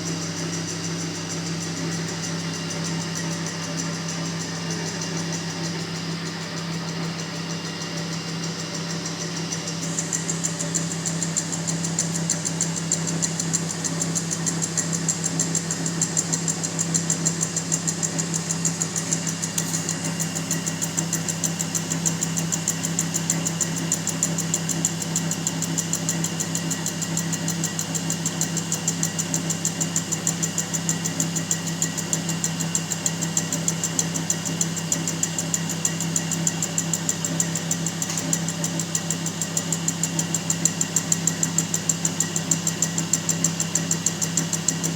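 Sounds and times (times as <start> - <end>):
drill press machine humming: 0.0 - 44.9.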